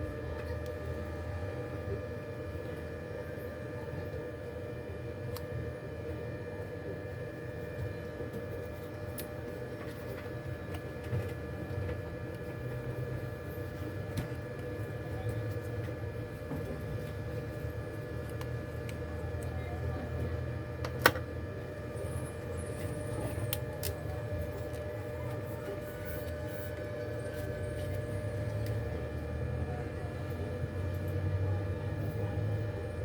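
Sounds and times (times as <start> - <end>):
steady electrical hum: 0.0 - 33.0.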